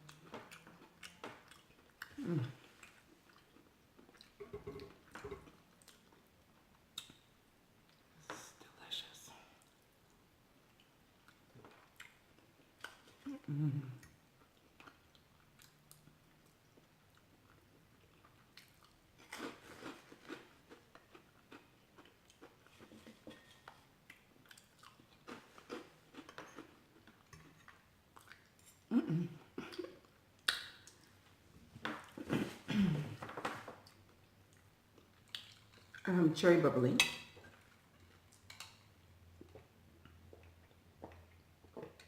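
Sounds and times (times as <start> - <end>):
person chewing food: 0.0 - 7.2, 10.6 - 36.0, 37.5 - 42.0.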